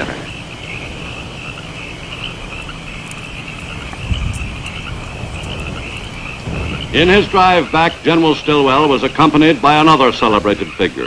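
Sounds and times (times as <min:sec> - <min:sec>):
insects chirring: 0:00.0 - 0:11.0
old film soundtrack hiss: 0:00.0 - 0:11.0.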